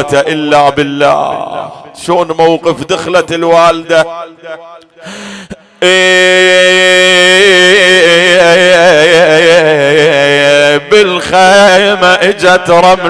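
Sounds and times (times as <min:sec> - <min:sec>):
man chanting a lament: 0:00.0 - 0:13.0.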